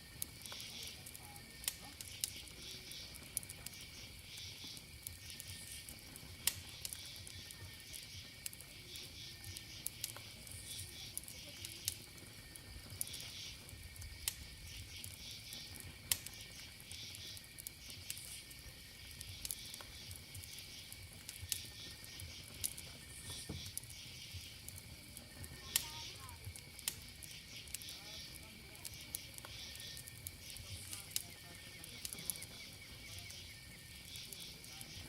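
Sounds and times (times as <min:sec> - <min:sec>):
campfire crackling and popping: 0:00.0 - 0:35.0
insects droning: 0:00.0 - 0:35.0.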